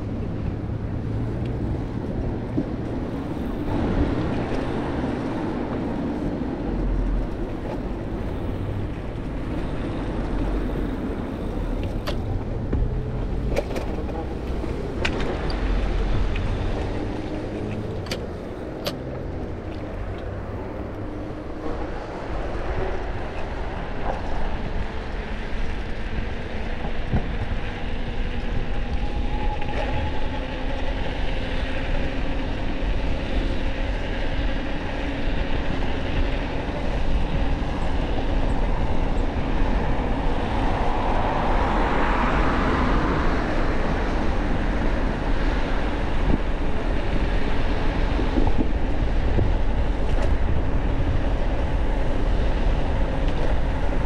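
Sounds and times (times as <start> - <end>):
road noise: 0.0 - 54.0
wind rumble on microphone: 0.0 - 54.0.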